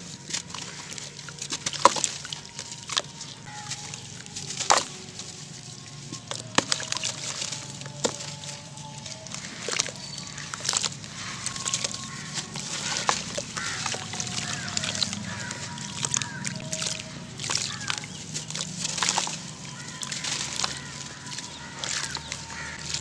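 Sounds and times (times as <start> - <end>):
cement chunks crumbled by hand: 0.0 - 23.0
grit splashing into water: 0.0 - 23.0.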